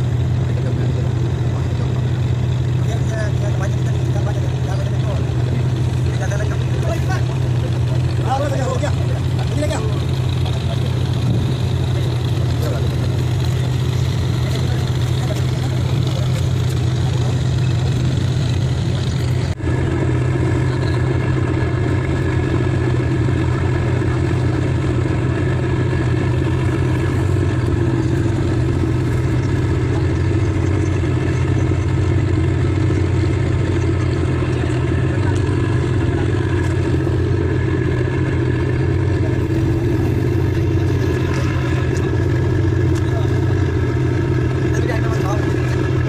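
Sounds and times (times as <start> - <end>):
boat engine droning: 0.0 - 46.0.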